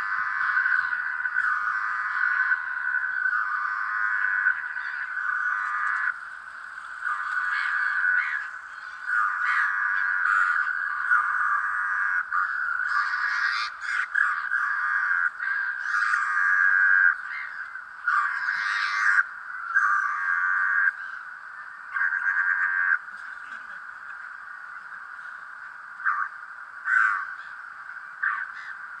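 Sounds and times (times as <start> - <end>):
chorus of chattering animal calls: 0.0 - 29.0.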